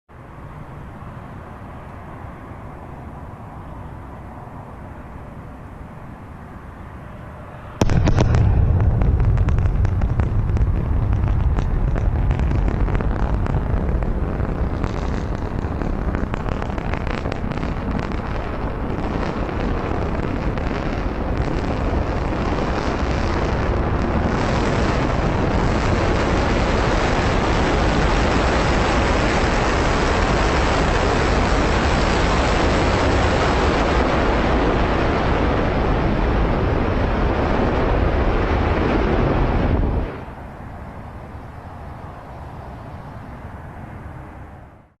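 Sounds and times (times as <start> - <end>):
rocket engine crackling rumble: 7.4 - 44.9.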